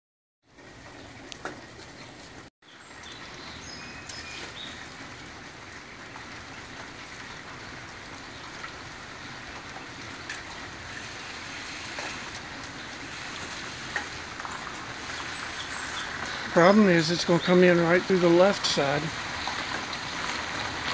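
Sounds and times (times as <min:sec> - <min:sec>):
runoff water running: 0:00.4 - 0:20.9
rain on gravel and puddles: 0:02.2 - 0:20.9.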